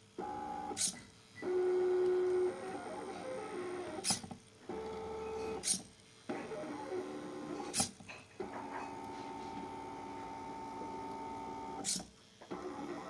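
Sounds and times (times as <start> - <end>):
pen plotter motors whining: 0.2 - 13.0.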